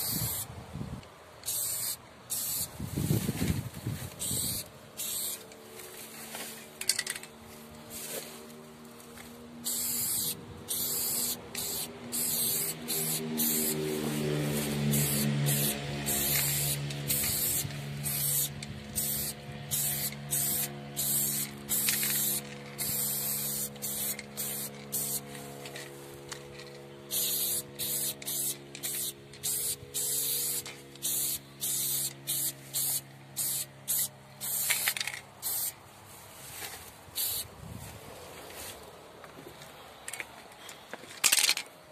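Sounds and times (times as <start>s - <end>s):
spray paint can hissing: 0.0s - 0.5s, 1.4s - 7.3s, 7.9s - 8.4s, 9.2s - 35.8s, 37.1s - 37.5s.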